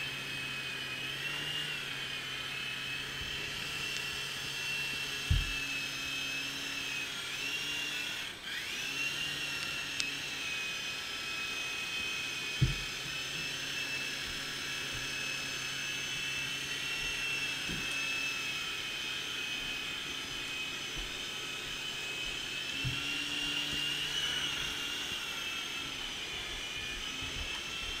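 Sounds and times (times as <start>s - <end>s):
model helicopter motor whine: 0.0s - 28.0s.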